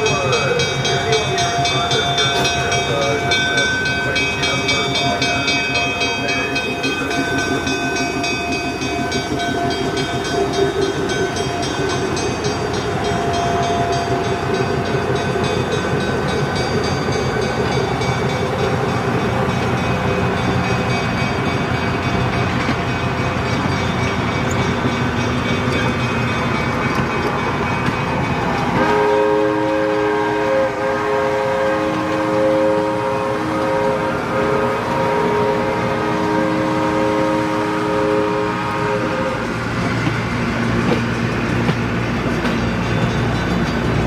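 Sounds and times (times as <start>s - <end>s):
diesel locomotive running: 0.0s - 44.0s.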